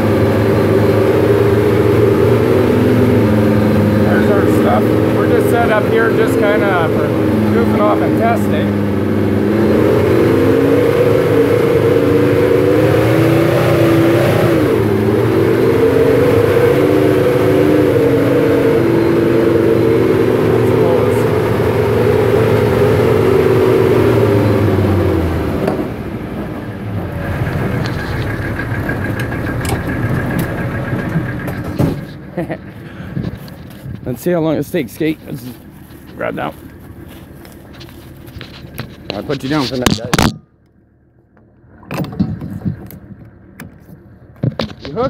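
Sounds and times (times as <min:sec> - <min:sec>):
tracked vehicle engine running: 0:00.0 - 0:45.0.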